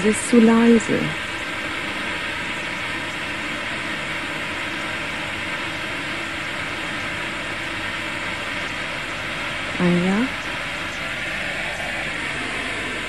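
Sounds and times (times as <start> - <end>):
steady hiss from loudspeaker: 0.0 - 6.6, 7.9 - 13.0.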